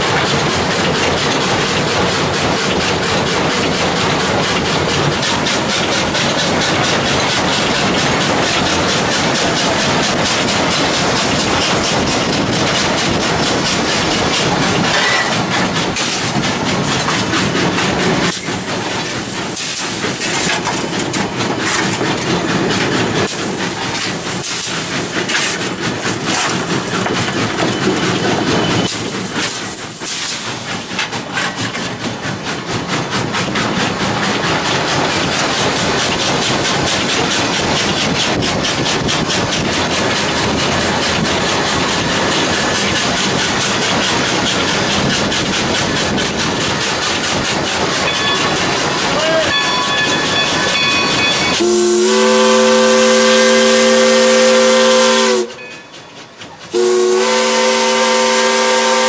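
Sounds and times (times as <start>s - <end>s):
steam hissing: 0.0s - 59.0s
steam locomotive running: 0.0s - 59.0s.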